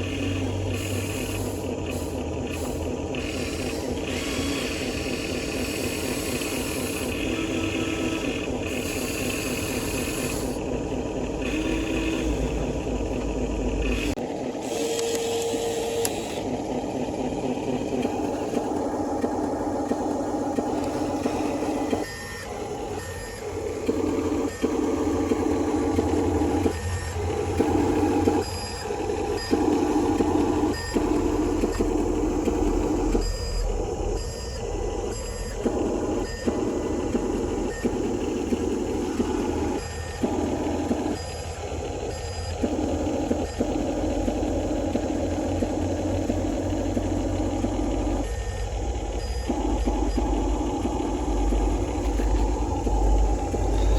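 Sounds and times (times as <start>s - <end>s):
electric motors whirring: 0.0s - 53.9s.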